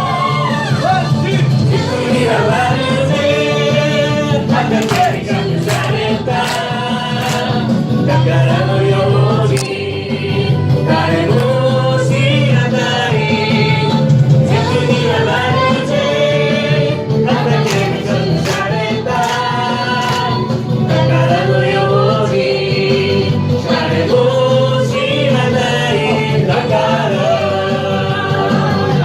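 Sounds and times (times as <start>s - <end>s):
group singing praise song: 0.0s - 29.0s
instrumental backing track: 1.3s - 29.0s.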